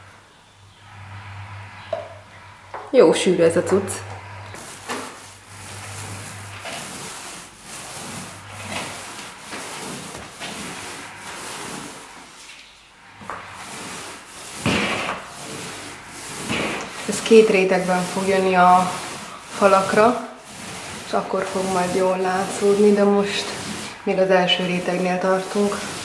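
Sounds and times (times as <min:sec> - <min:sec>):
paint roller swishing: 0:00.9 - 0:26.0.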